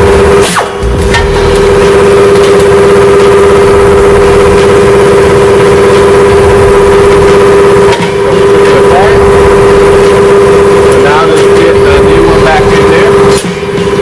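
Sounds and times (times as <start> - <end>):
loud steady motor drone: 0.0 - 14.0.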